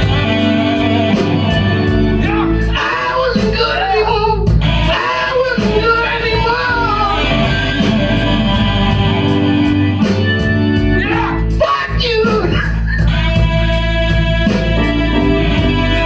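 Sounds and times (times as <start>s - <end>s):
blues-rock band playing: 0.0s - 16.0s
electric guitar with bent notes: 0.0s - 16.0s.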